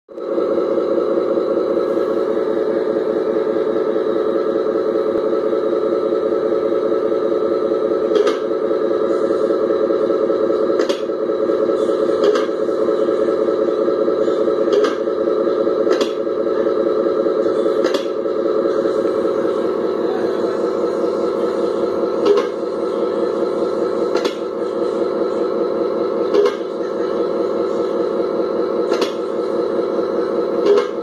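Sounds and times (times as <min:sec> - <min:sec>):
diesel idle through small speaker: 0:00.1 - 0:31.0.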